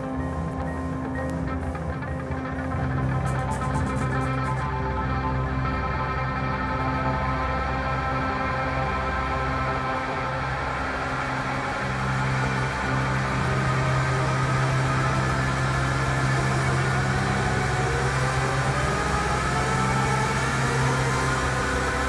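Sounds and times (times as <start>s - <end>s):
synthesizer low drone: 0.0s - 22.0s
synthesizer tone sweeping upward: 0.0s - 22.0s.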